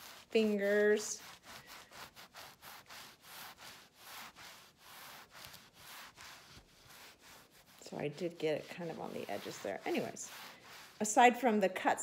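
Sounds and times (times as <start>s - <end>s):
cloth wiping a cutting board: 0.0s - 11.5s.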